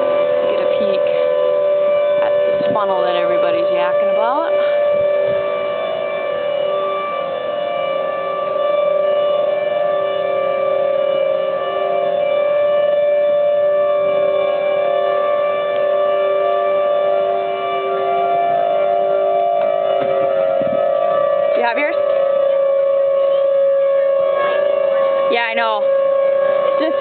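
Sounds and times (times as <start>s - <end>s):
warning sirens steady tone: 0.0s - 27.0s.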